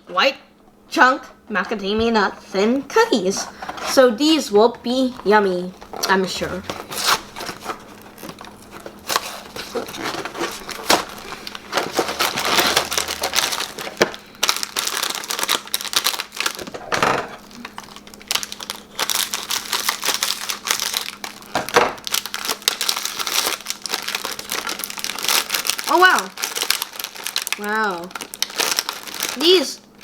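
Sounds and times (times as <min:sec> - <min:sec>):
plastic packaging crinkling: 0:02.2 - 0:30.0.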